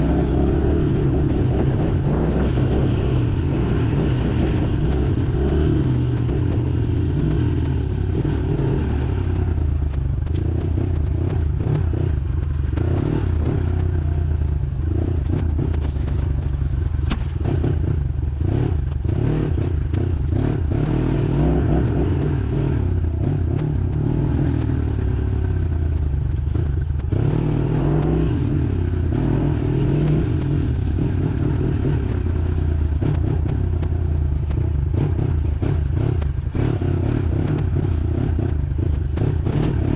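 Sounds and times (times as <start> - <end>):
clicks and clatter: 0.0 - 39.9
dirt bike engine running: 0.0 - 39.9.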